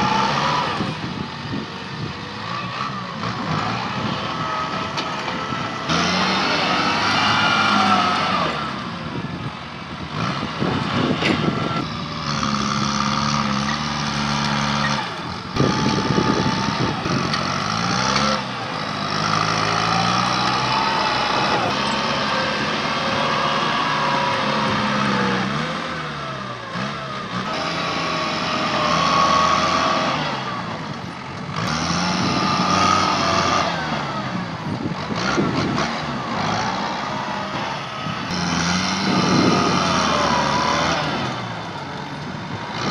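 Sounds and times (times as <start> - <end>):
tractor engine revving: 0.0 - 42.9.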